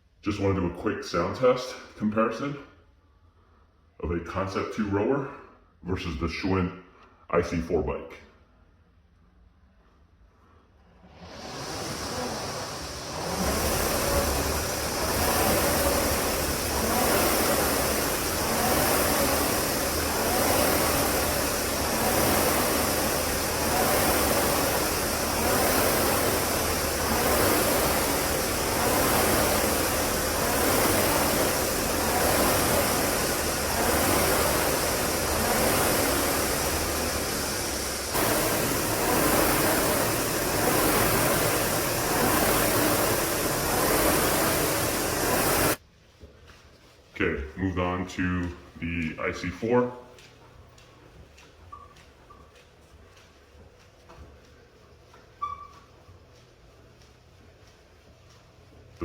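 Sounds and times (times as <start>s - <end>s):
rowing machine fan whooshing: 9.4s - 59.0s.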